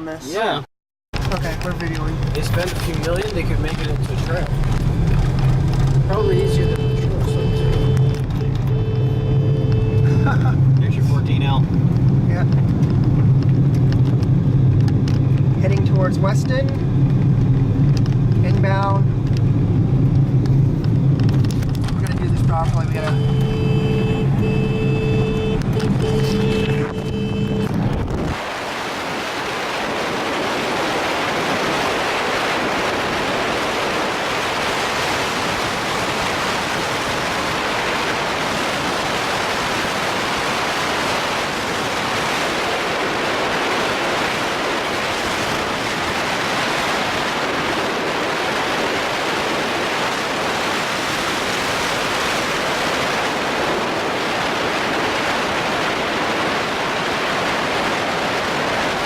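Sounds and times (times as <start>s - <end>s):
car road and wind noise: 1.2s - 59.0s.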